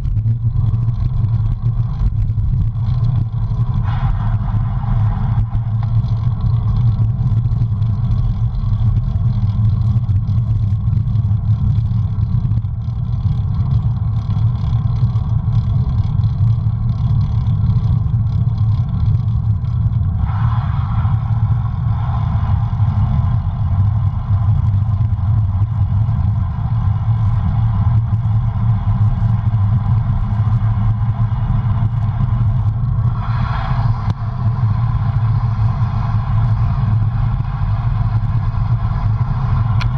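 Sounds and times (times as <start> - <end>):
bicycle tyres on asphalt: 0.0 - 39.9
wind rushing over microphone: 0.0 - 39.9.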